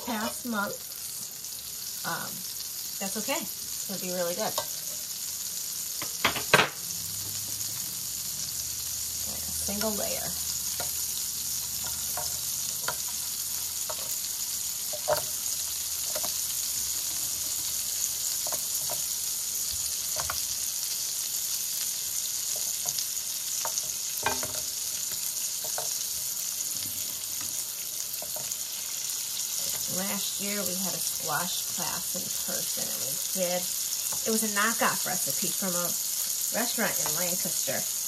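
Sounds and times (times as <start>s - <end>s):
butter sizzling in a skillet: 0.0s - 38.0s.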